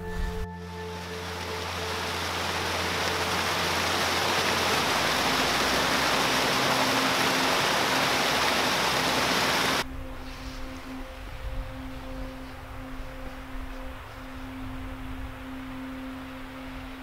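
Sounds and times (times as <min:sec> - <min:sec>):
soft sustained music tones: 0:00.0 - 0:17.0
waterfall and creek rushing: 0:00.1 - 0:17.0.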